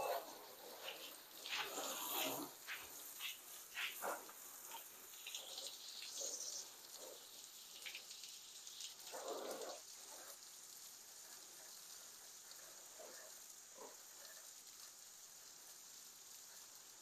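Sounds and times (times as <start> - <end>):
water spraying from hose: 0.0 - 17.0.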